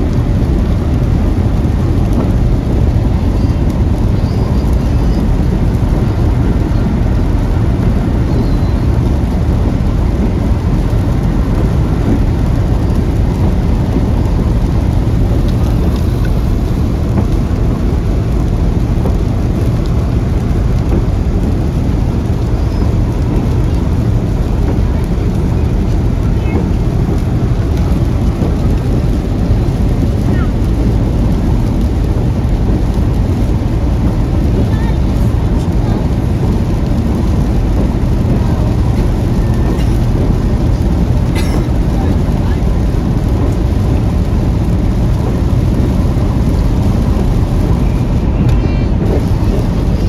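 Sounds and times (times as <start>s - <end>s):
rain on car: 0.0s - 50.0s
road noise: 0.0s - 50.0s.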